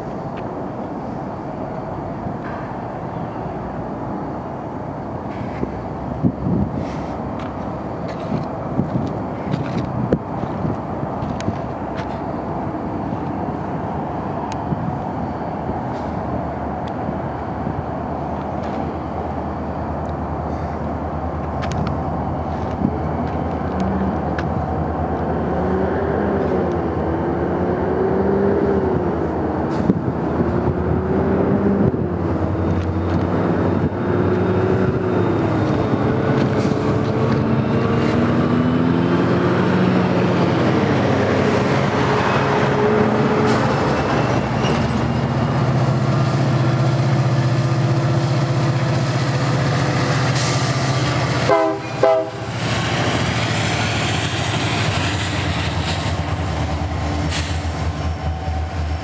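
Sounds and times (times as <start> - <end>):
diesel locomotive engines droning: 0.0 - 59.0.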